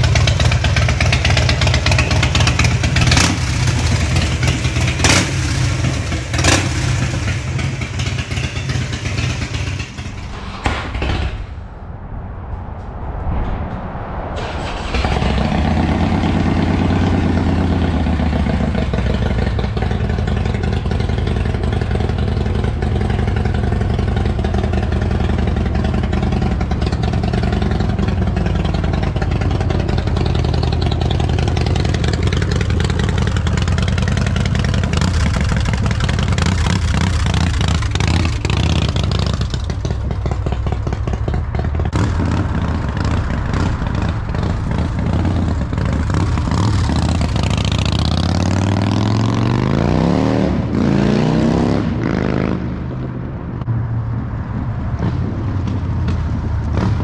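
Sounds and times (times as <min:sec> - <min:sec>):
motorcycle engine starting and idling: 0:00.0 - 0:11.4, 0:14.4 - 0:50.0.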